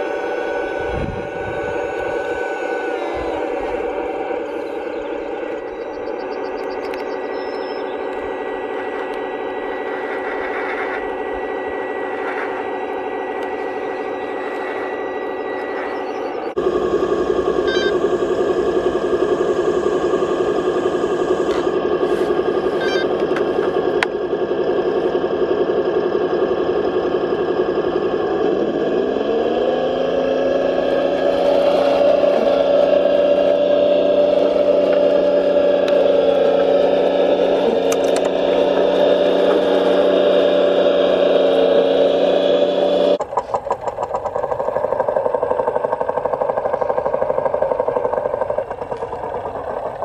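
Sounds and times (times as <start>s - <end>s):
toy engine running: 0.0s - 50.0s.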